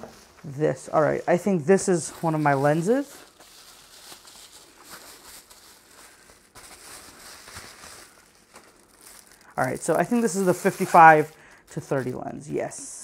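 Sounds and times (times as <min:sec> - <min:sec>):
bubble wrap crinkling: 0:00.0 - 0:12.8.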